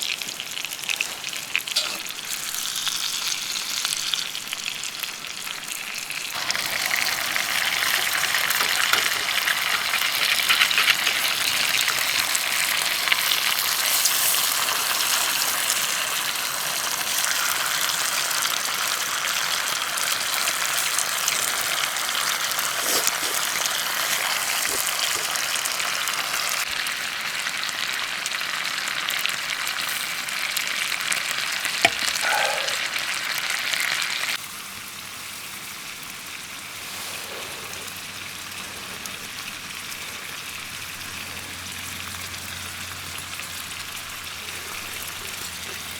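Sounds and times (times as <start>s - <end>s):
food frying sizzle: 0.0s - 45.9s.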